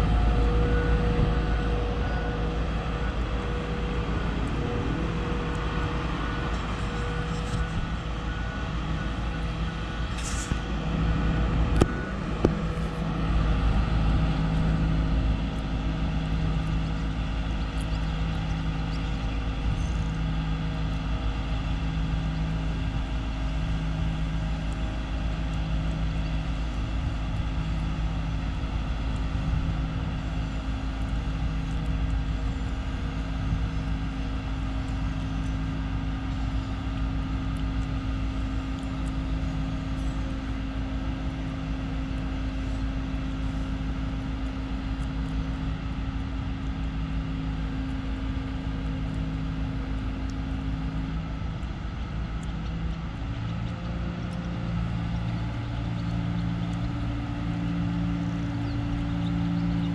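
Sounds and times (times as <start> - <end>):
lift engine droning: 0.0 - 59.9.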